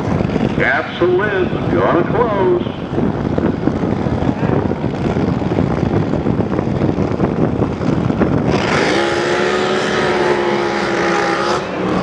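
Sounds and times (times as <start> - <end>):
race boat engine idling and howling: 0.0 - 12.0.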